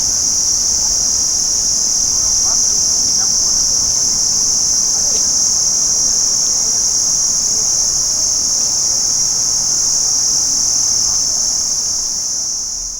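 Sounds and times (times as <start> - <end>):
crickets trilling: 0.0 - 12.9.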